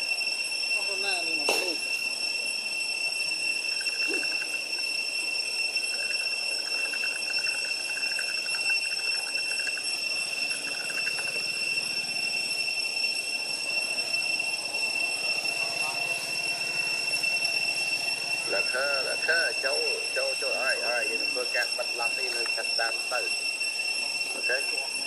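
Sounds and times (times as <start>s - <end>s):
high-pitched insect whine: 0.0s - 25.0s
pulsing insect trill: 0.0s - 25.0s.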